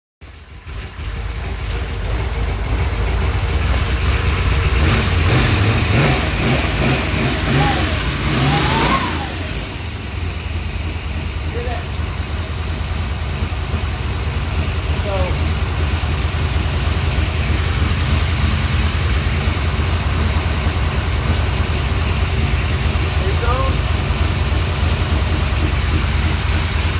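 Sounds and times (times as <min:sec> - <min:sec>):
engine with pulsing exhaust rumble: 0:00.2 - 0:26.9.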